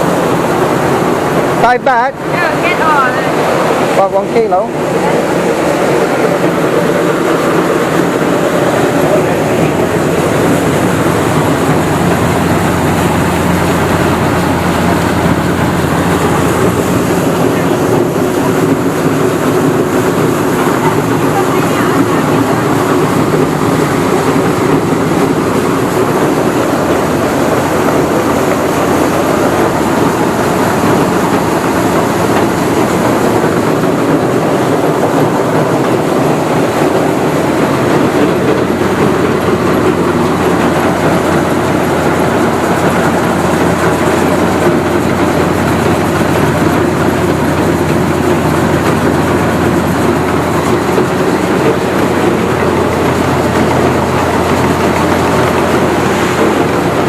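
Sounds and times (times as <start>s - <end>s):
rice-milling machinery clattering: 0.0s - 57.0s.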